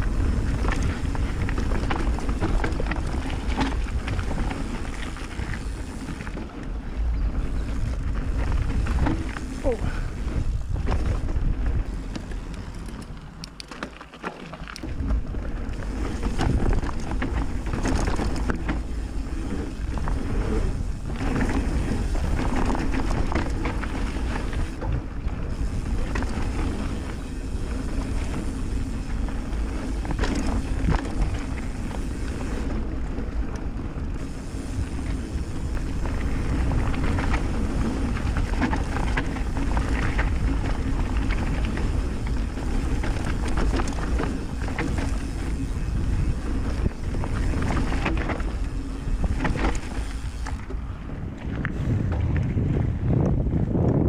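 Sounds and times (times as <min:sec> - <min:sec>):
wind noise on microphone: 0:00.0 - 0:13.4, 0:14.8 - 0:54.0
bike chain and frame rattling: 0:00.0 - 0:51.8
bike tyres rumbling on dirt: 0:00.0 - 0:54.0.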